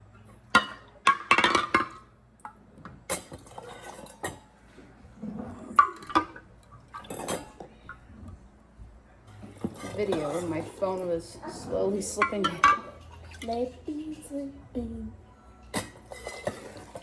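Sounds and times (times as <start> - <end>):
dishes and utensils clinking: 0.4 - 8.1, 9.3 - 14.4, 15.6 - 17.0.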